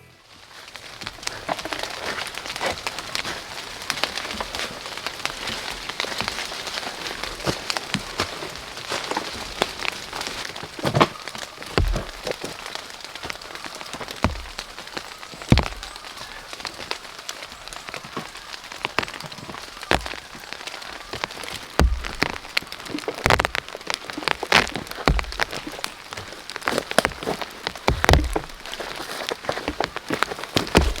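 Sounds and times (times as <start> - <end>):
heavy raindrops landing: 0.0 - 31.0
steady rain: 0.0 - 31.0.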